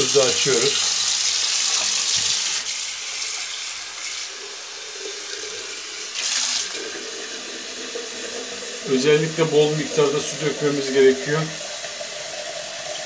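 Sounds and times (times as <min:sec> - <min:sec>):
tap water running onto tiled floor: 0:00.0 - 0:13.0.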